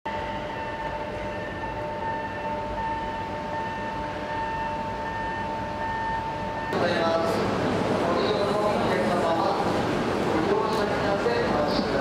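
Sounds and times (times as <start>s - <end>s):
train rumble and whine: 0.1s - 12.0s.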